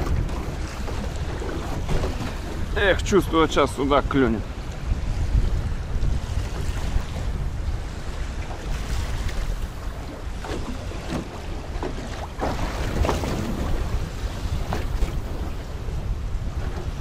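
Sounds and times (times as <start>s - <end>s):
waves splashing against boat hull: 0.0s - 17.0s
wind rumbling on microphone: 0.0s - 17.0s.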